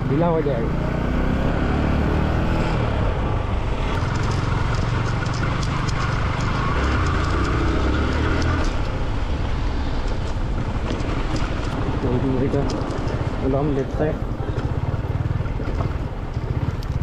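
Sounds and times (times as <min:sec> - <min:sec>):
motorcycle engine running: 0:00.0 - 0:17.0
road and wind rumble: 0:00.0 - 0:17.0.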